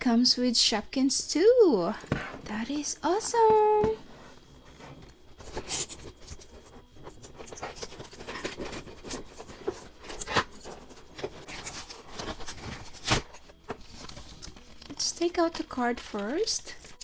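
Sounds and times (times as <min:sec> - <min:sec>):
packaging rustling: 0:01.8 - 0:17.0.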